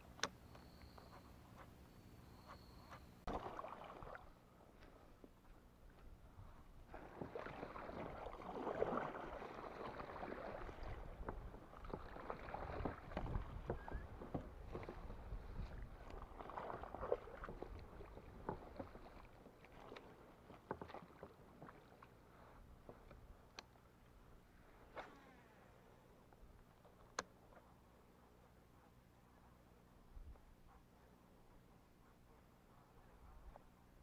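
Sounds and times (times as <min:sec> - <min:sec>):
paddle swishing through water plants: 0:00.2 - 0:34.0.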